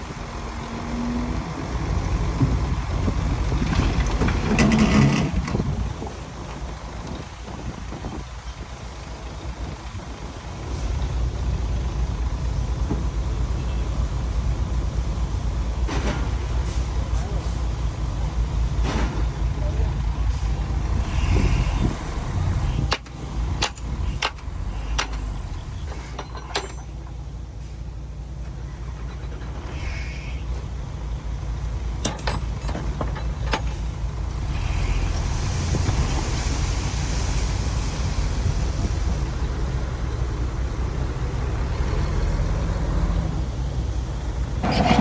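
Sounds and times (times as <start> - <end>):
heavy diesel machinery rumbling: 0.0 - 45.0.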